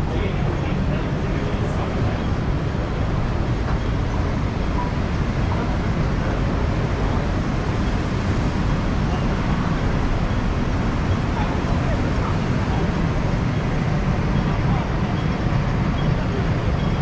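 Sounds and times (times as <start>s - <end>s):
steady traffic noise: 0.0s - 17.0s.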